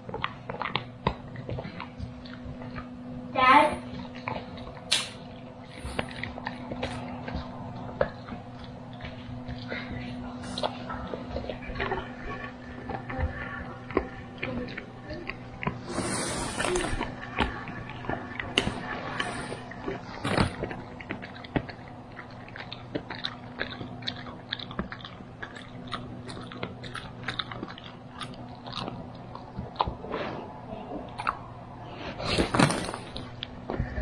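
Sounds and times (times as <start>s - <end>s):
dog crunching a hard treat: 0.0s - 3.0s, 3.8s - 30.4s, 31.0s - 34.0s.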